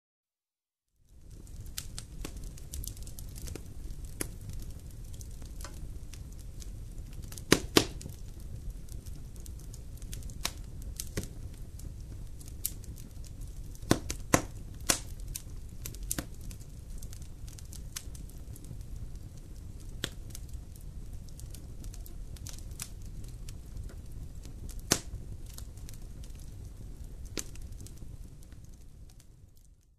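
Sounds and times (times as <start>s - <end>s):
campfire crackling and popping: 1.0s - 29.9s.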